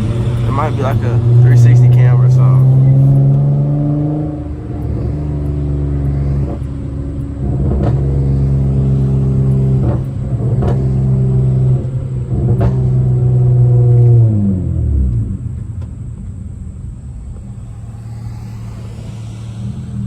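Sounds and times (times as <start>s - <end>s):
car exhaust droning: 0.0s - 20.0s.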